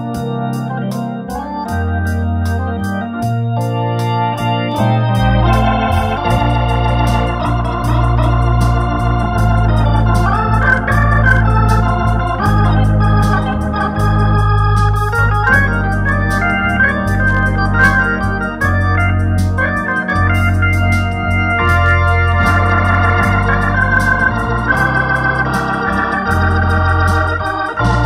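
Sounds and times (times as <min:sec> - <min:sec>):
light ticking beat: 0:00.0 - 0:28.0
organ playing a pop ballad: 0:00.0 - 0:28.0.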